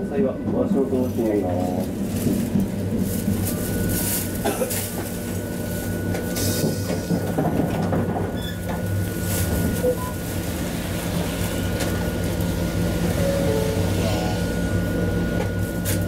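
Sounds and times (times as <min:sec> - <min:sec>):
streetcar rumble and hum: 0:00.0 - 0:16.0.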